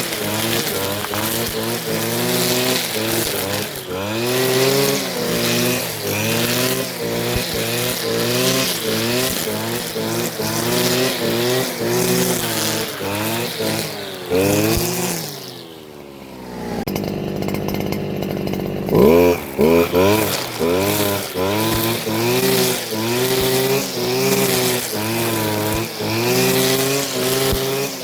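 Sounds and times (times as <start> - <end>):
string trimmer engine revving: 0.0 - 28.0.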